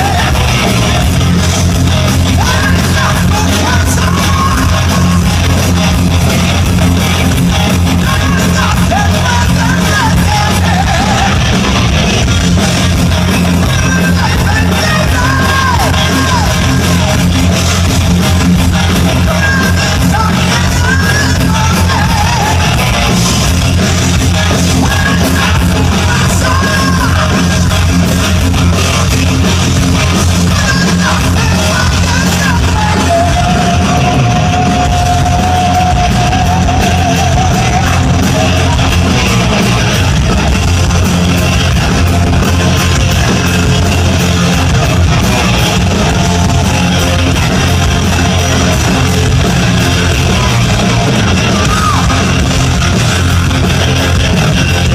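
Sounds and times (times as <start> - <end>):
heavy rock band playing live: 0.0 - 54.9.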